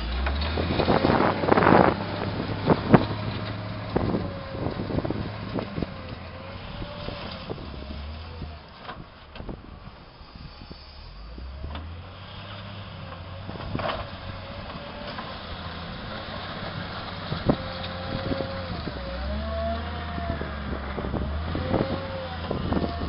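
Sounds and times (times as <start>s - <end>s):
wheel loader diesel engine: 0.0s - 23.0s.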